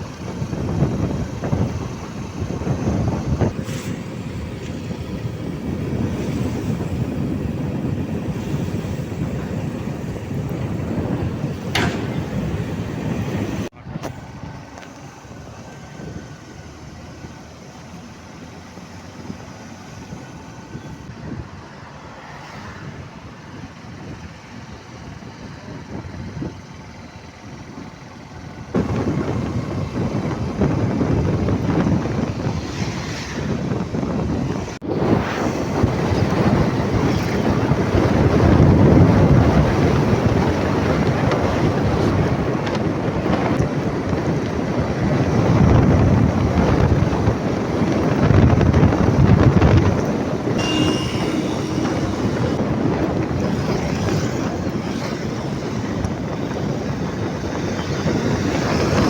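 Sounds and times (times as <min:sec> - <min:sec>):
road traffic noise: 0:00.0 - 0:59.0
wind rumbling on microphone: 0:00.0 - 0:59.0.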